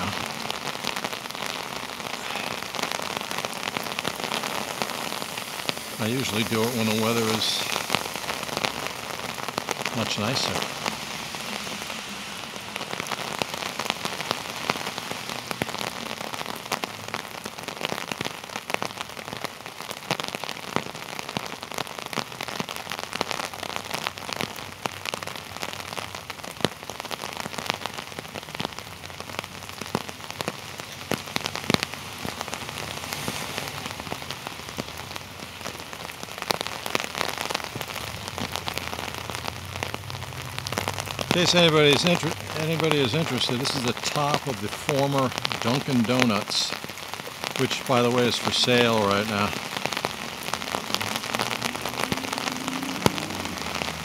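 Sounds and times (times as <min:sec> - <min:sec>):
torrential rain falling: 0:00.0 - 0:54.0.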